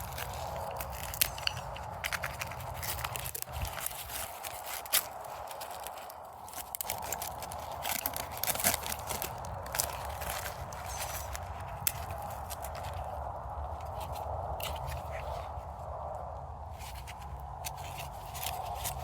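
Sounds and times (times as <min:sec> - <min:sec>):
crinkling and crackling layers: 0:00.0 - 0:19.0.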